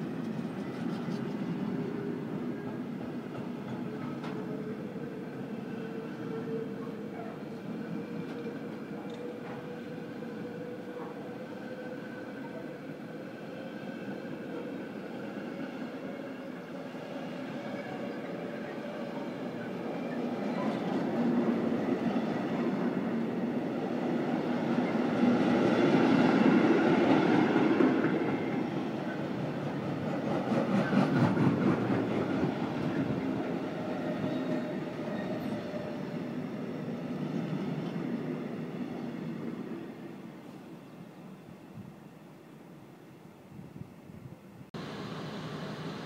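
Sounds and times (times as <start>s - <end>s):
train rumbling by: 0.0s - 42.2s, 44.8s - 46.0s.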